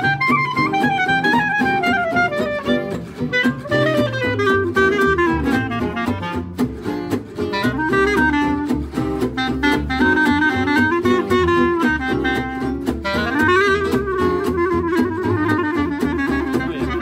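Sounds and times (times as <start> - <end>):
acoustic guitars strumming: 0.0 - 17.0
clarinet melody: 0.0 - 17.0.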